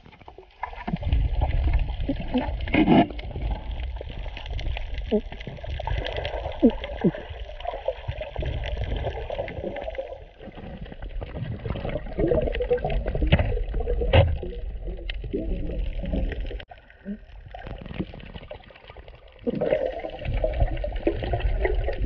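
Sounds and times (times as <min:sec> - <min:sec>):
underwater moving water and bubbling: 0:00.0 - 0:22.0.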